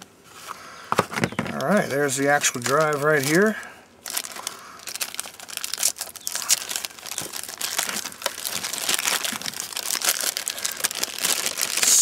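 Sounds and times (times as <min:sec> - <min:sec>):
plastic bag crinkling: 0:01.6 - 0:12.0.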